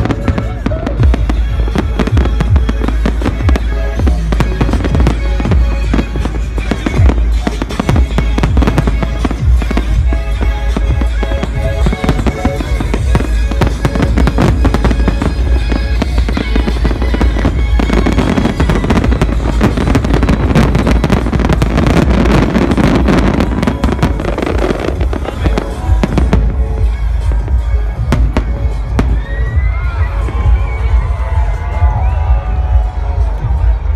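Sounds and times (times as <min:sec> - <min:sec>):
fireworks bursting and crackling: 0:00.0 - 0:32.2
electronic dance music: 0:00.0 - 0:33.9.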